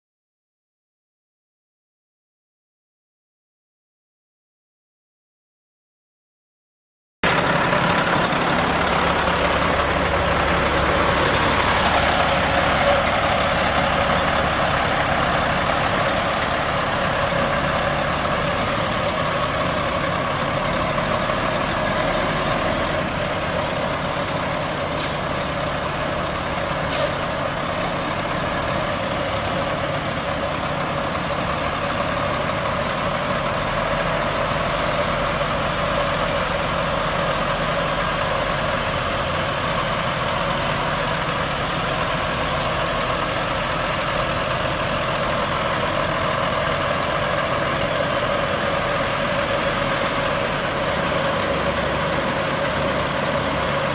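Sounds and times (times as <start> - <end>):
diesel truck engine running: 7.2 - 53.9.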